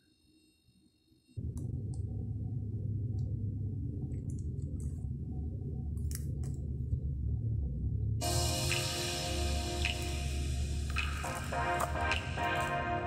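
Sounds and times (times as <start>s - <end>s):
steady low hum: 1.4s - 13.0s.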